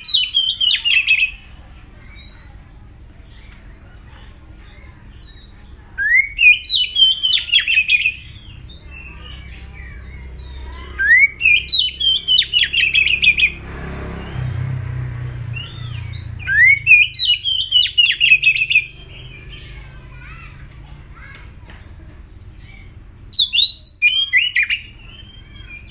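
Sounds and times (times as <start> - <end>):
bird singing: 0.0 - 20.6, 21.2 - 25.9.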